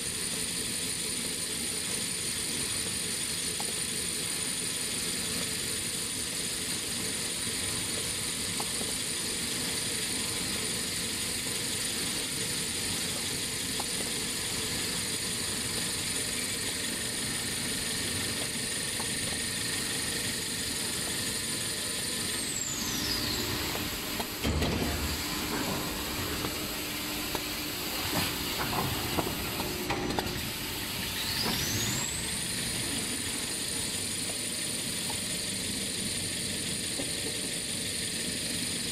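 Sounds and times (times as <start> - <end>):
machine noise with high whine: 0.0 - 38.9.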